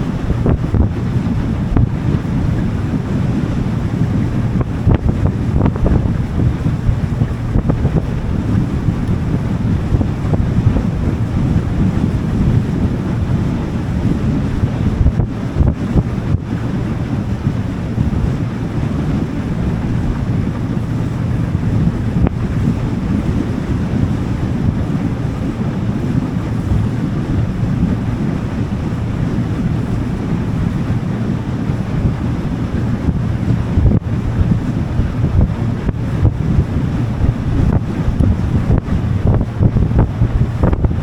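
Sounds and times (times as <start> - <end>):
boat engine humming: 0.0 - 41.0
water rushing along hull: 0.0 - 41.0
wind buffeting microphone: 0.0 - 41.0.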